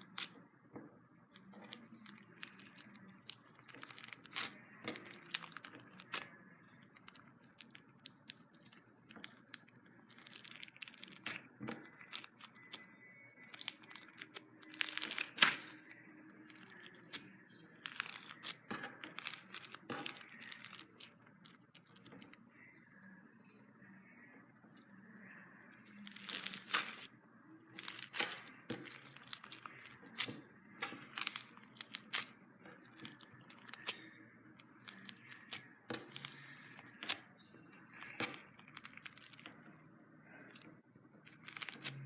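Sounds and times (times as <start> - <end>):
foam bead slime crackling: 1.5 - 22.3, 25.8 - 27.1, 27.8 - 34.0, 34.6 - 37.2, 37.9 - 39.8, 41.2 - 42.0.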